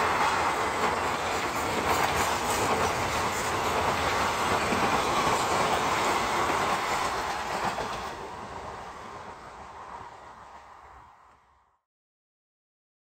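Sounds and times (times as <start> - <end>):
rail clicks: 0.0 - 11.4
train wheels rumbling on rails: 0.0 - 11.6.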